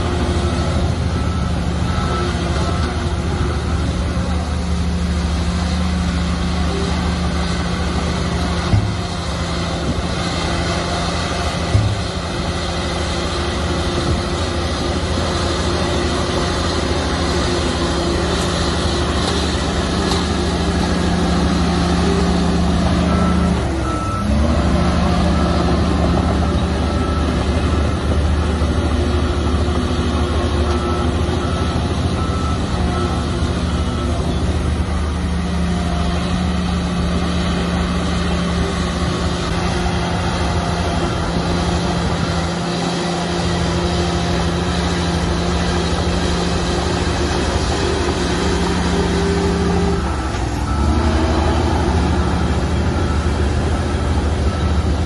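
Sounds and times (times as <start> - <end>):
heavy diesel machinery running: 0.0 - 55.0
reversing alarm beeping: 0.0 - 55.0.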